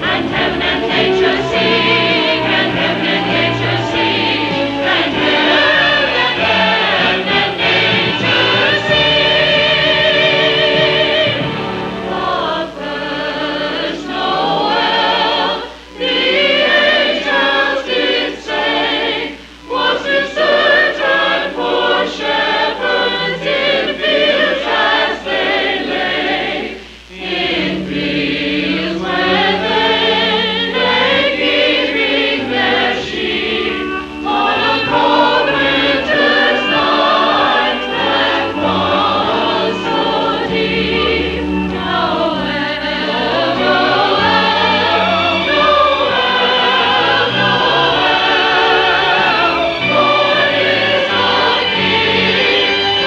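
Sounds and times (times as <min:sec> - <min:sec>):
choir singing in parts: 0:00.0 - 0:53.0.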